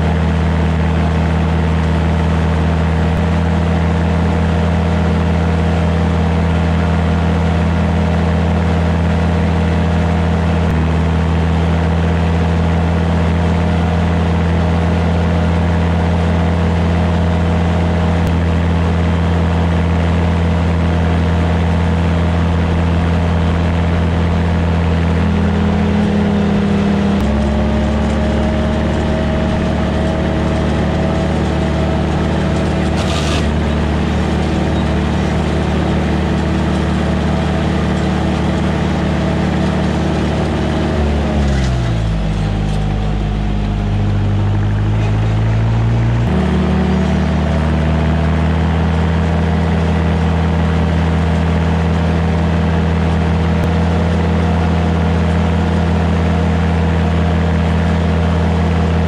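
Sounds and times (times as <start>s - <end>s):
mower engine running under load: 0.0s - 59.0s
rotary mower cutting grass: 0.0s - 59.0s.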